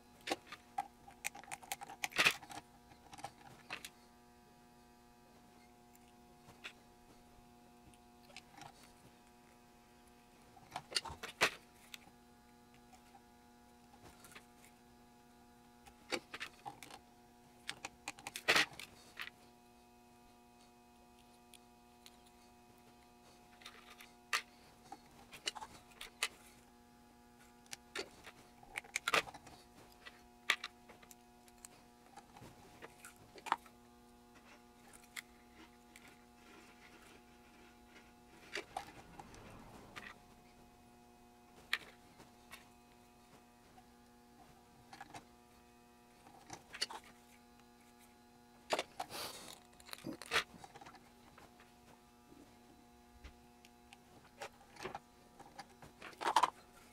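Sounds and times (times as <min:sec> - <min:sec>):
faint electrical hum: 0:00.0 - 0:56.9.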